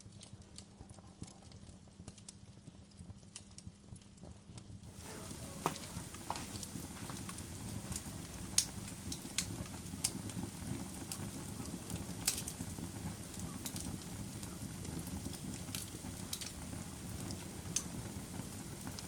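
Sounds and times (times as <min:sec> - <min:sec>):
fire crackles and pops: 0:00.0 - 0:19.0
low rumble of flames: 0:00.1 - 0:19.0.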